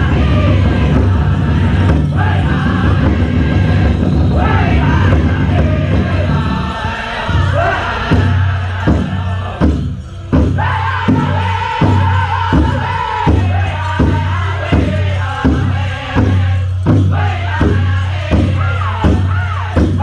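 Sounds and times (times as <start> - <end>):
big drum steady beat: 0.0 - 20.0
group singing in high voices: 0.0 - 20.0.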